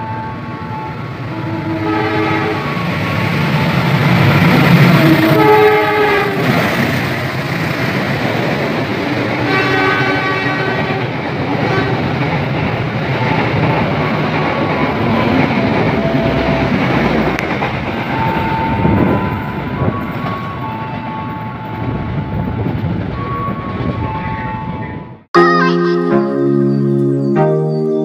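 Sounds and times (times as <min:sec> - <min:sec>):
train wheels rumbling on rails: 0:00.0 - 0:25.3.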